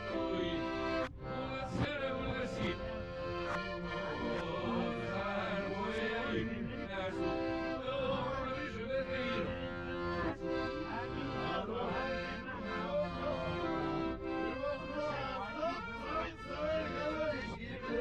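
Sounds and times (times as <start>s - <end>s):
accordion chords: 0.0s - 18.0s.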